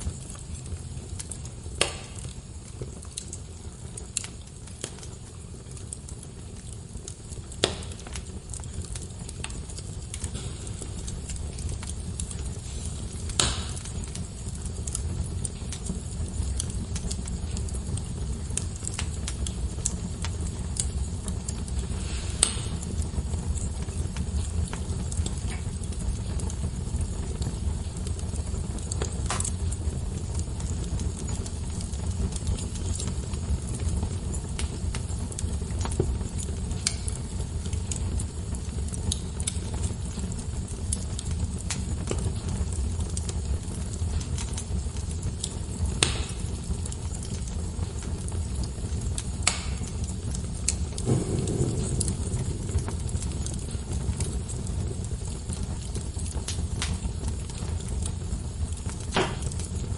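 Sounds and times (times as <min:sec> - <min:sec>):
fire rumbling: 0:00.0 - 0:59.9
wood fire crackling and popping: 0:00.0 - 0:59.9.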